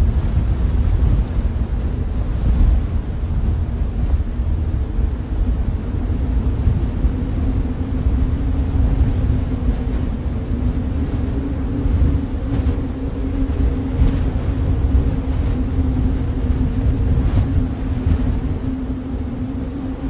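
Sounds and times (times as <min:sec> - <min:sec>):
storm wind blowing: 0:00.0 - 0:20.0.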